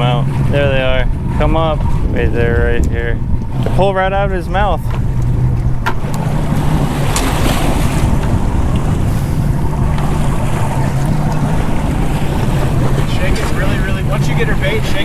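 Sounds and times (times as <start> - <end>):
boat engine idling: 0.0 - 15.0
waves against hull: 0.0 - 15.0
wind buffeting microphone: 0.0 - 15.0.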